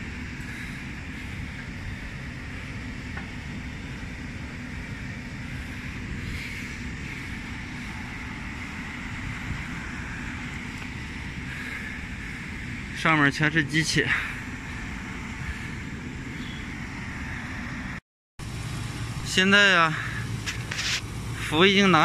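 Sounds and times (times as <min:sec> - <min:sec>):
refrigeration units humming: 0:00.0 - 0:22.0.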